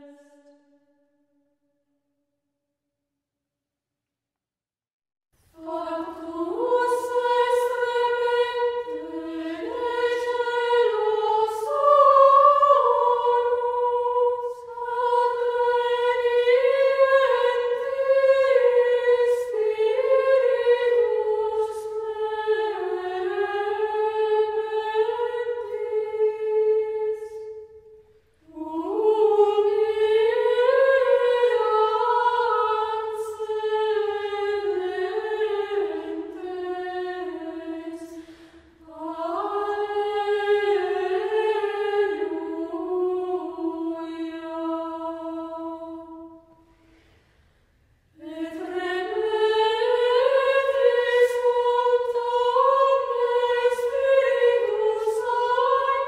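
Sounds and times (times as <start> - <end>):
unaccompanied chant singing: 5.6 - 27.7, 28.5 - 46.4, 48.2 - 56.0.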